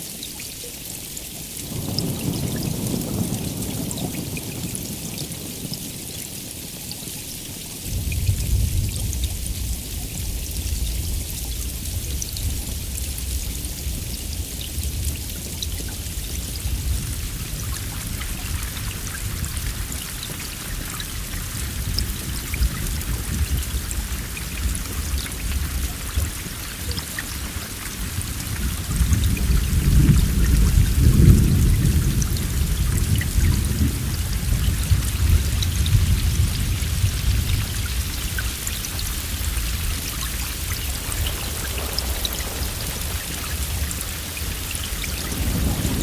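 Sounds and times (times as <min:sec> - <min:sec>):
heavy rain falling: 0:00.0 - 0:46.0
low thunder rolling: 0:07.9 - 0:46.0.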